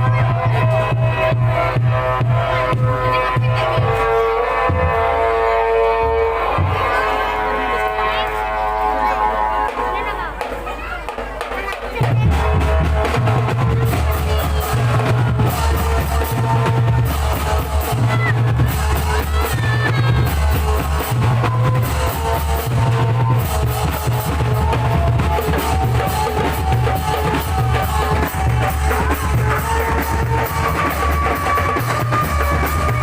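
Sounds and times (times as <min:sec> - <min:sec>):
loud music with driving drum beat: 0:00.0 - 0:07.1, 0:09.6 - 0:33.0.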